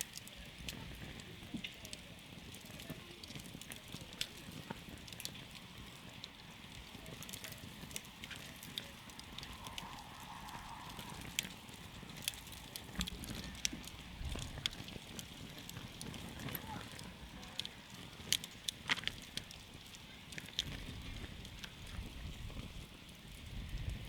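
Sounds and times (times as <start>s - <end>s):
campfire crackling and popping: 0.0s - 24.0s
low rumble of flame: 0.0s - 24.0s.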